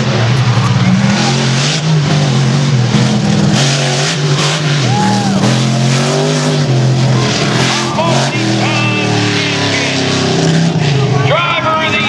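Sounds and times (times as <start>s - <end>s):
loud monster truck engine: 0.0s - 12.0s.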